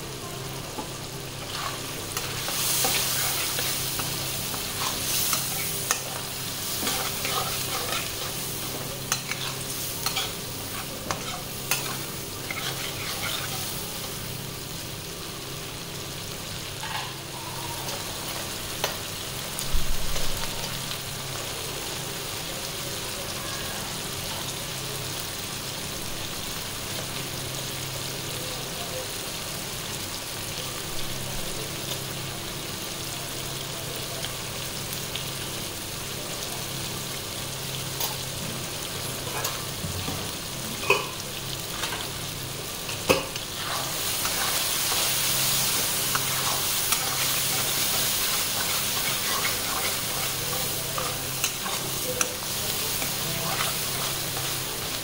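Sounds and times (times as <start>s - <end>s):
onions sizzling in hot oil: 0.0s - 55.0s.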